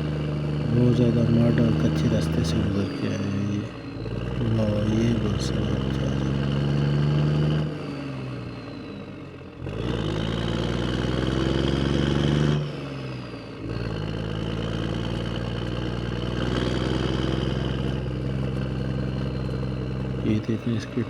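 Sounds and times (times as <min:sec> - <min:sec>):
vehicle engine revving: 0:00.0 - 0:08.6, 0:09.6 - 0:21.0.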